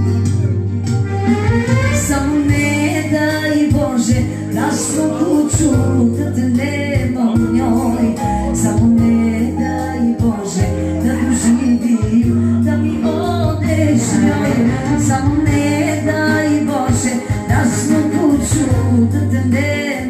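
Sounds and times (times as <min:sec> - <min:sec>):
keyboard accompaniment: 0:00.0 - 0:20.0
woman singing into a microphone: 0:01.9 - 0:20.0.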